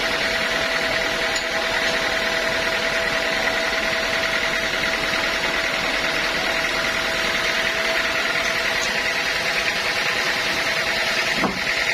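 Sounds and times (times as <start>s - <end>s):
sawmill machinery drone and whine: 0.0s - 11.9s.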